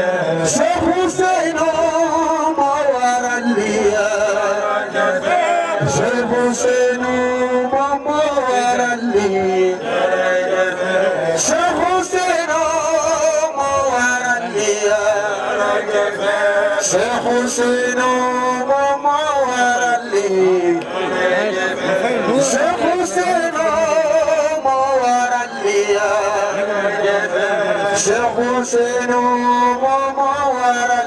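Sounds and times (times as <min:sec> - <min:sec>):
man chanting into a microphone: 0:00.0 - 0:31.0.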